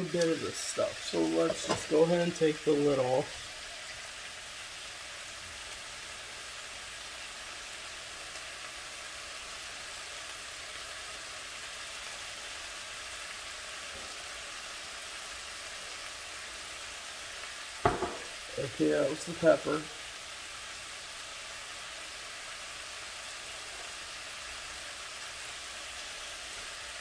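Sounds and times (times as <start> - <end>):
vegetables sizzling in a frying pan: 0.0 - 27.0.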